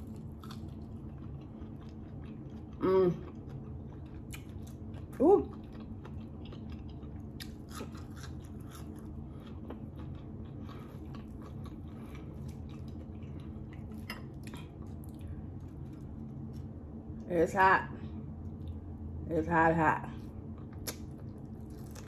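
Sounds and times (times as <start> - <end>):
person chewing: 0.0 - 16.8, 20.2 - 22.0
steady low hum: 0.0 - 22.0.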